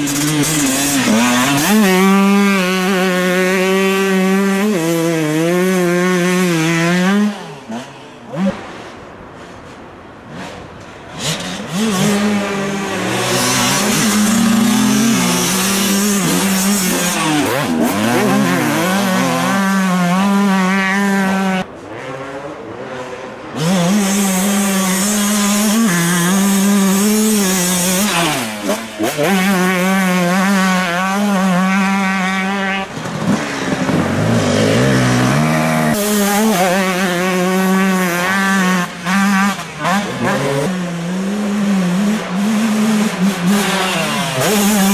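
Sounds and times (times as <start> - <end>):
motocross bike engines revving: 0.0 - 9.1, 10.2 - 44.9.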